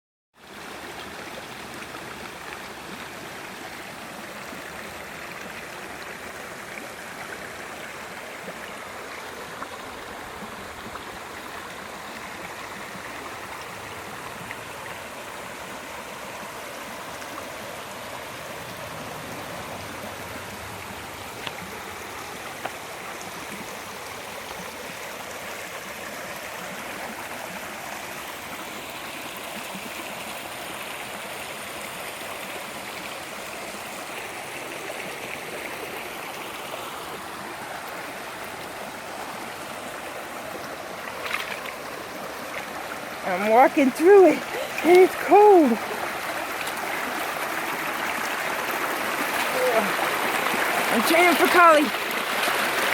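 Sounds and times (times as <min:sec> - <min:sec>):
creek water over rocks: 0:00.4 - 0:52.9.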